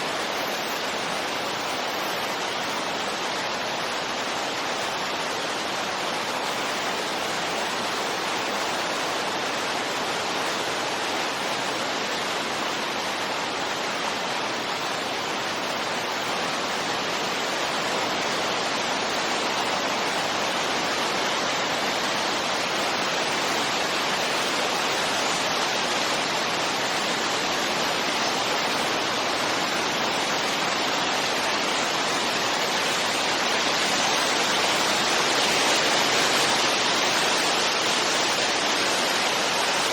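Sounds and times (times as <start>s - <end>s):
steady wind hiss: 0.0s - 39.9s.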